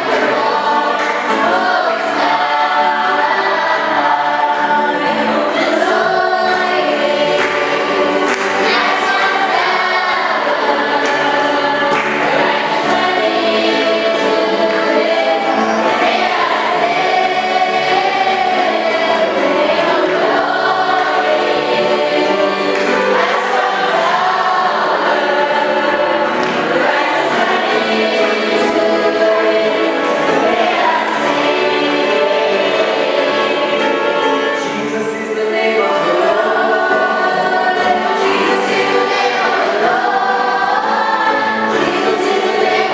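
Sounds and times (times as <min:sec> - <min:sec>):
choir singing a hymn: 0:00.0 - 0:42.9.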